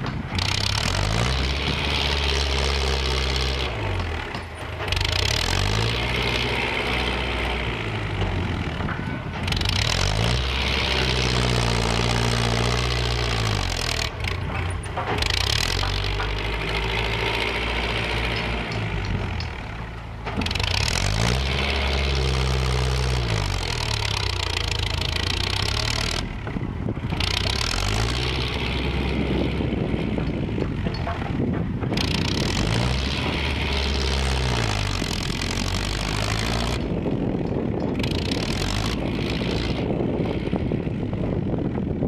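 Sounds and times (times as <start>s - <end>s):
tractor diesel engine: 0.0s - 42.0s.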